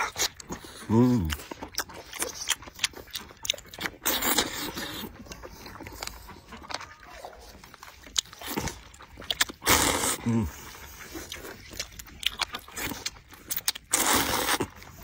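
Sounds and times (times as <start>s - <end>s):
slurping noodles: 0.0s - 6.6s, 7.4s - 15.0s
wet chewing: 0.0s - 15.0s.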